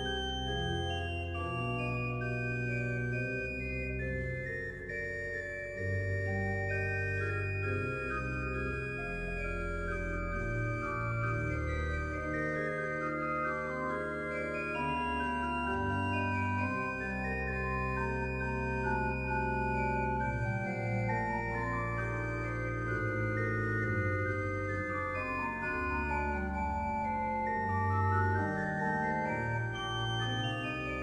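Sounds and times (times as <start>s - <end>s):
pipe organ playing: 0.0s - 31.0s.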